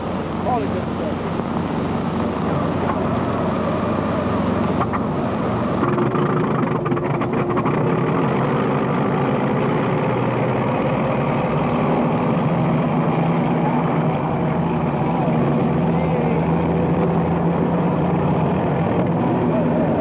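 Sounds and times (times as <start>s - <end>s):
hissy recording noise: 0.0s - 20.0s
motorboat engine running: 0.0s - 20.0s.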